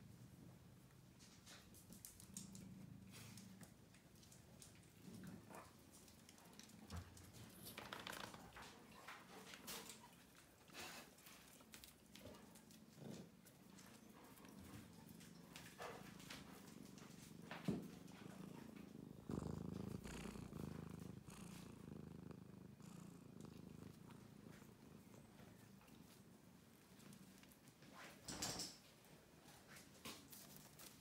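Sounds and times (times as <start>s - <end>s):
cat purring: 0.0s - 28.6s.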